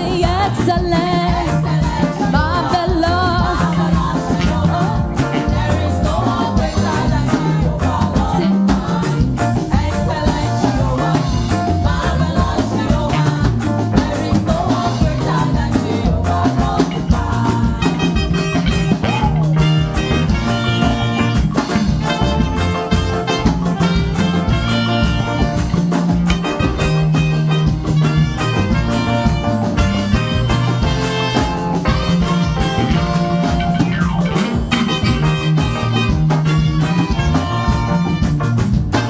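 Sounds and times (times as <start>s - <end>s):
live band playing upbeat song: 0.0s - 39.0s.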